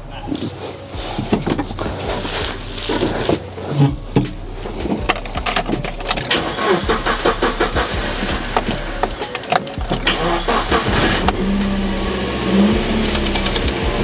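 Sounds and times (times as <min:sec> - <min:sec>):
car engine starting and sputtering: 0:00.0 - 0:14.0.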